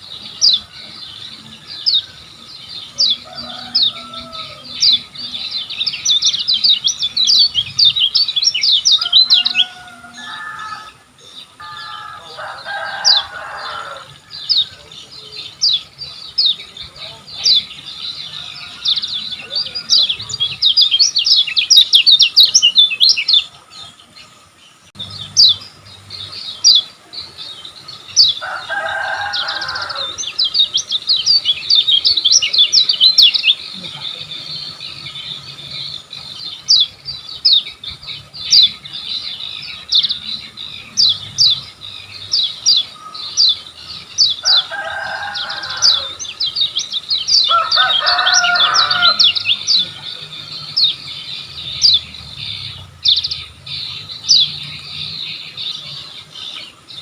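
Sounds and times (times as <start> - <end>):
bird singing chattering song: 0.0 - 57.0.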